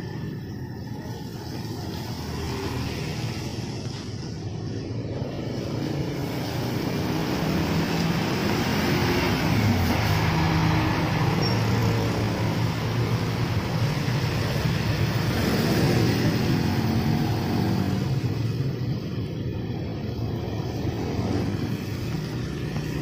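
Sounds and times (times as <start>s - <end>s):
bus diesel engine passing: 0.0s - 23.0s
tyres hissing on wet road: 0.8s - 23.0s.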